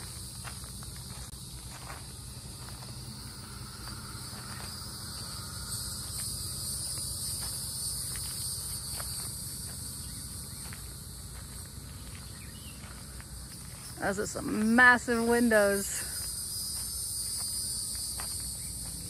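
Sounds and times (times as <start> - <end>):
light footsteps: 0.0 - 15.4
insects chirring: 0.0 - 19.0.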